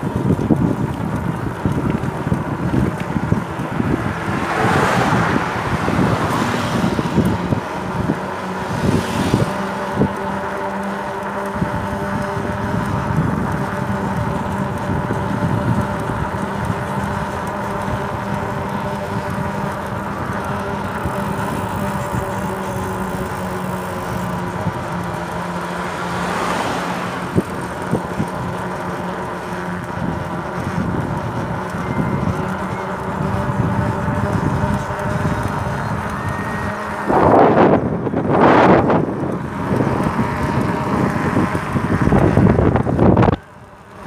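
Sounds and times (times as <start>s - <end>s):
vehicle passing: 0.0s - 44.0s
wind buffeting microphone: 0.0s - 44.0s.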